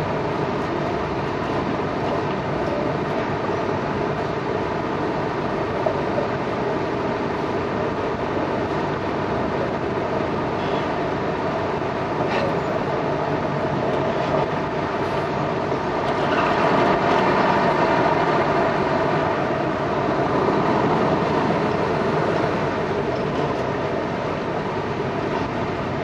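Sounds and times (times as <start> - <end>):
boat engines running: 0.0 - 26.0
steady rushing noise: 0.0 - 26.0.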